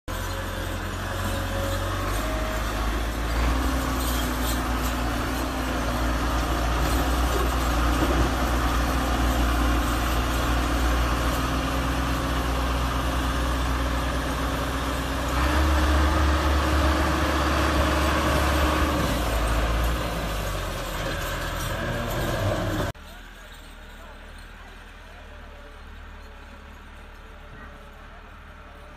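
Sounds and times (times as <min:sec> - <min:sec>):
tractor diesel engine running: 0:00.1 - 0:28.9.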